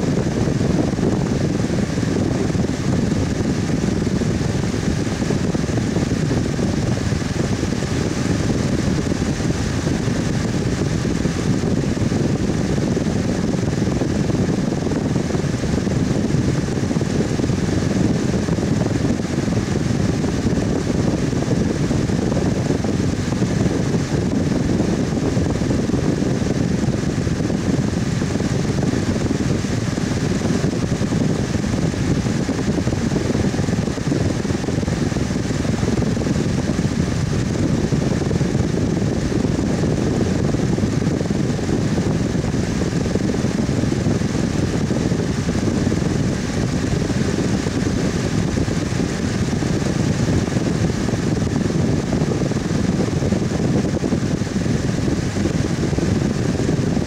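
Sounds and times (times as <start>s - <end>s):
electric fan whooshing hum: 0.0s - 57.0s
faint steady whine: 0.0s - 57.0s.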